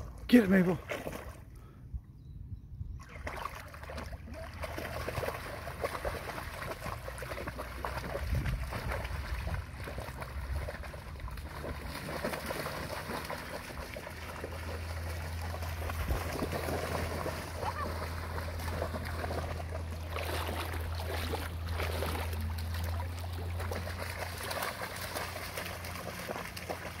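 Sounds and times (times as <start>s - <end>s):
dogs splashing in water: 0.0s - 1.5s, 3.0s - 27.0s.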